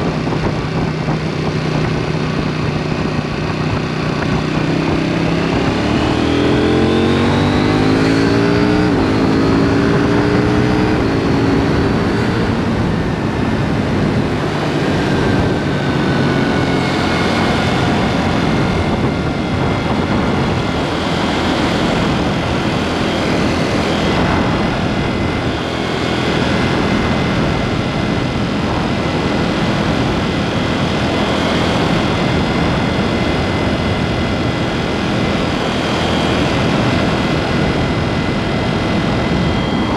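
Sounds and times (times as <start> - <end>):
motorcycle engine accelerating: 0.0 - 39.9
road and wind noise: 0.0 - 39.9.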